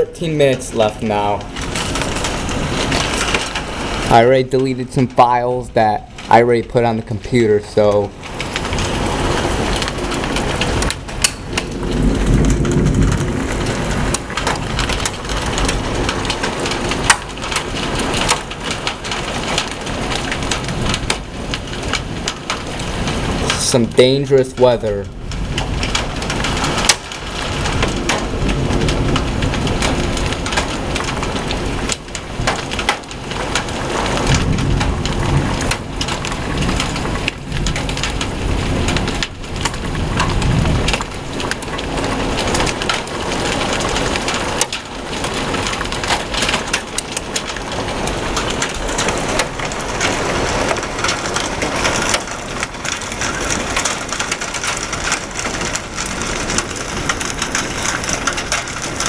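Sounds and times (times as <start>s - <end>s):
heavy rain beating down: 0.0s - 59.0s
rain pelting on surfaces: 0.0s - 59.0s
thunder rumbling: 0.0s - 59.0s.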